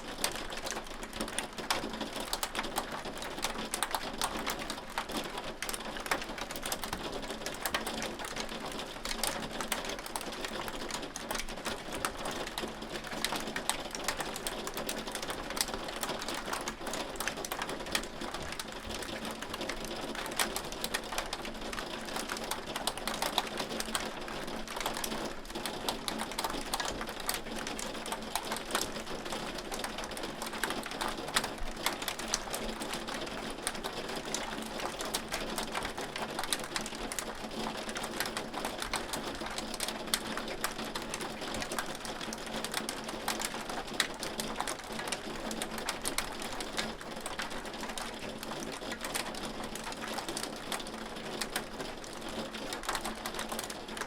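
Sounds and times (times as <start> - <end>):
hail clicking and ticking: 0.1 - 54.0.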